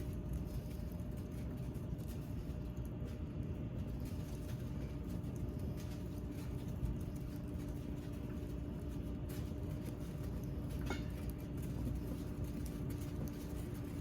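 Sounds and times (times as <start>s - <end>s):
faint hum: 0.0s - 14.0s
low steady rumble: 0.0s - 14.0s.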